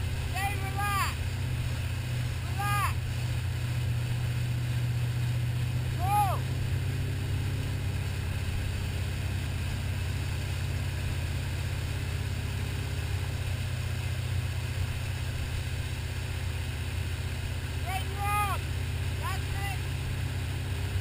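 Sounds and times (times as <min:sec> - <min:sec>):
boat engine droning: 0:00.0 - 0:21.0
hiss of churning wake: 0:00.0 - 0:21.0.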